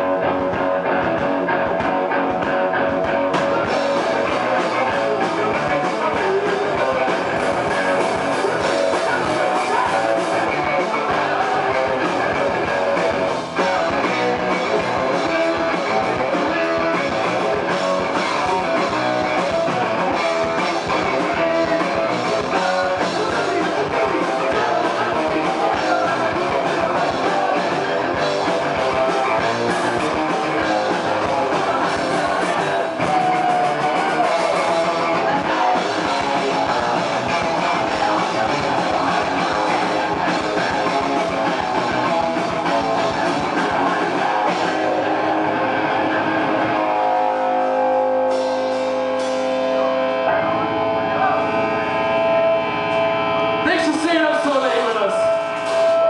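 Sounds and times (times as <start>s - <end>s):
drum kit: 0.0s - 56.0s
electric bass guitar: 0.0s - 56.0s
live rock band playing: 0.0s - 56.0s.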